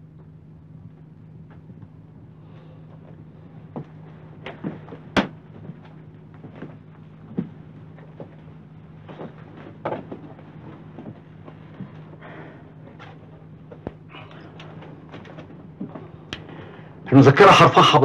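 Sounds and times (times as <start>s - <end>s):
steady low hum: 0.0s - 18.0s
footsteps and shuffling: 2.6s - 17.0s.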